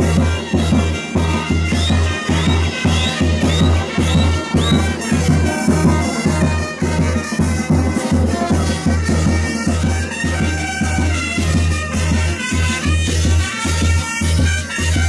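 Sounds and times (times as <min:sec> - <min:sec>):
bass drum beat: 0:00.0 - 0:15.0
reedy wind instruments melody: 0:00.0 - 0:15.0.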